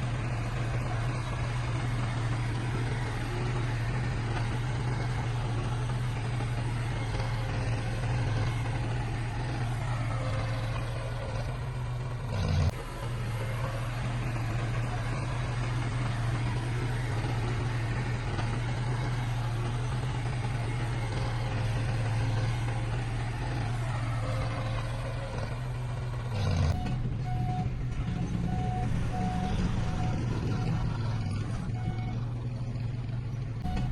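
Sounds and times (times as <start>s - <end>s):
diesel engine low hum: 0.0s - 33.9s.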